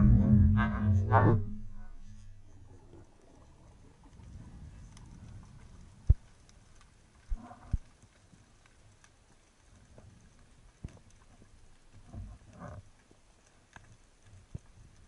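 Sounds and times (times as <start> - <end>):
low rumble of moving water: 0.0 - 15.0.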